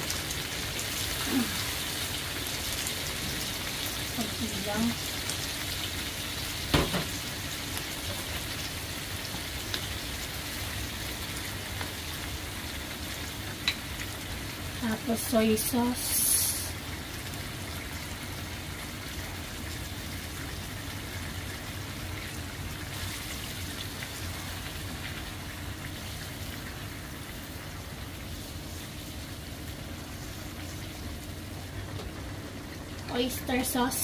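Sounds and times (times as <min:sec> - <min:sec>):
sauce sizzling and bubbling in a pan: 0:00.0 - 0:34.0.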